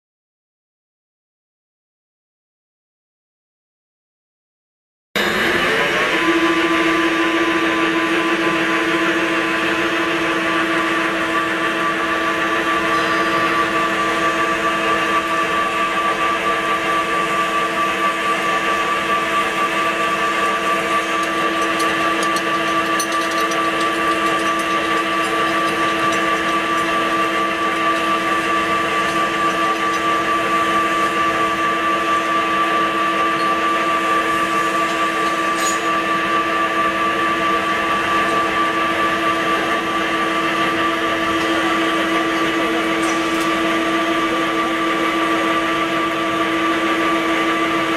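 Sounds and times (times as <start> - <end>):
drilling machine motor whine: 5.2 - 47.9
noisy hum: 5.2 - 47.9.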